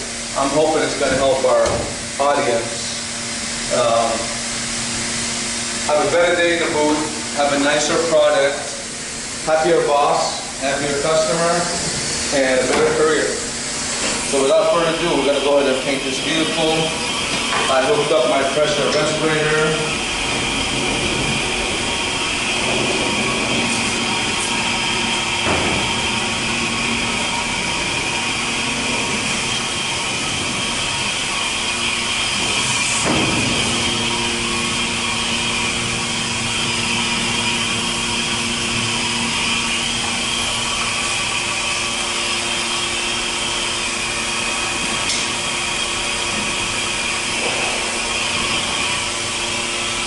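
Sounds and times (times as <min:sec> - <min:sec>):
compressed air hissing: 0:01.8 - 0:42.9.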